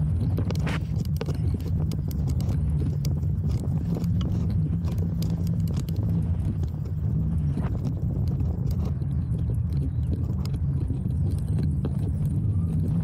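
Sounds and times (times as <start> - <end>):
bicycle rolling over dirt track: 0.0 - 13.0.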